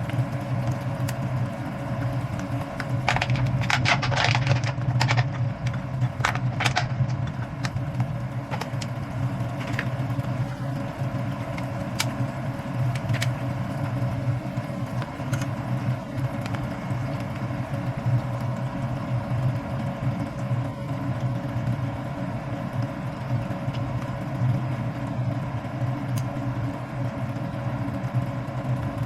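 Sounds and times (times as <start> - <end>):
motor or fan humming: 0.0 - 29.0.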